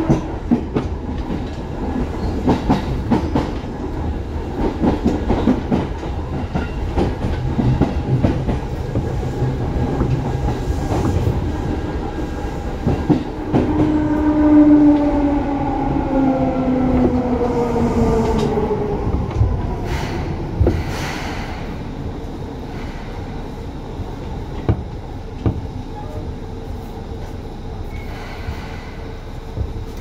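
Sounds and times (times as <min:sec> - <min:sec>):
train rolling rumble: 0:00.0 - 0:30.0.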